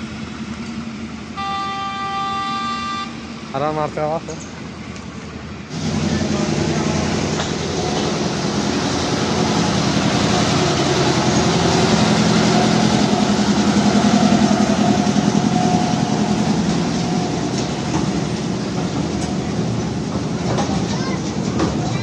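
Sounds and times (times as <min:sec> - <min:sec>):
carriages rolling past: 0:03.5 - 0:22.0.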